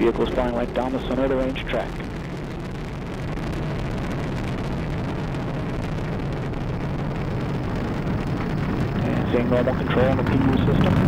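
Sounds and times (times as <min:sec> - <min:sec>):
rocket engine roar: 0:00.0 - 0:11.0.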